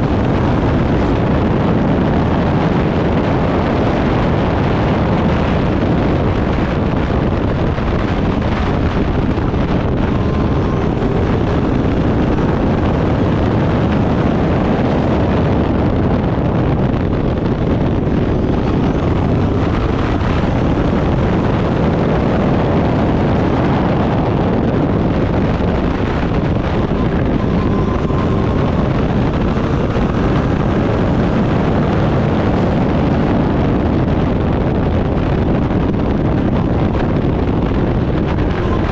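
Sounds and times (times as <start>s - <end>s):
race car engine at speed: 0.0s - 38.9s
wind noise on microphone: 0.0s - 38.9s.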